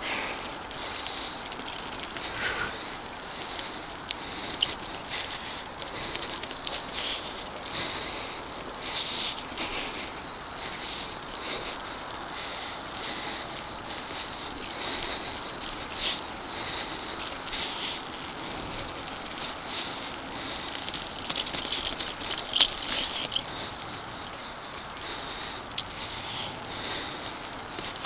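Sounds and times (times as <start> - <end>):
bike rattling: 0.0 - 28.0
tyres crackling over dry leaves: 0.0 - 28.0.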